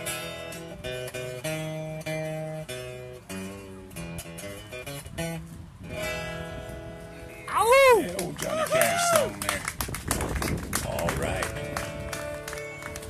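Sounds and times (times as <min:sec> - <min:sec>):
acoustic guitar picking: 0:00.0 - 0:09.0, 0:10.6 - 0:13.0.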